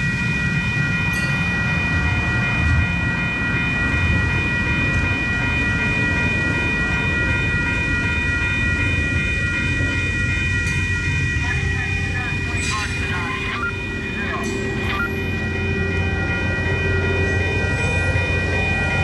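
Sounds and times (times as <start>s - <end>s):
high-pitched whine: 0.0s - 19.0s
train wheels rumbling on rail: 0.0s - 19.0s.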